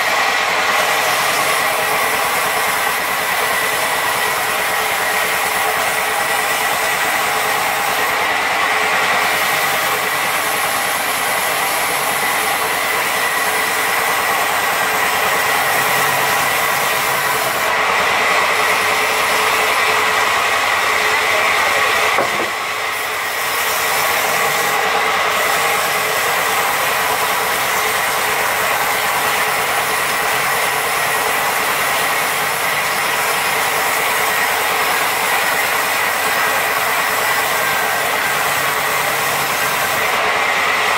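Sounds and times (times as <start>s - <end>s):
band saw cutting through log: 0.0s - 40.9s.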